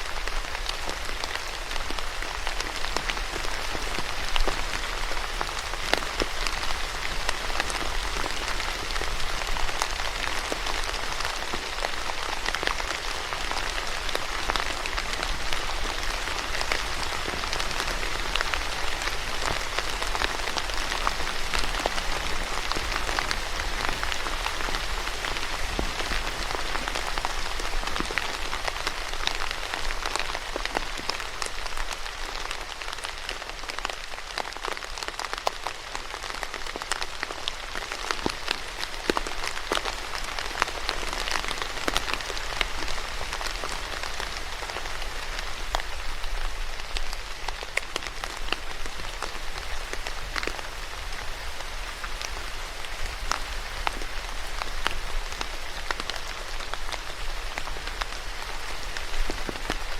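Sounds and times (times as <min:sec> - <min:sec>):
rain pattering on hard surface: 0:00.0 - 0:59.9.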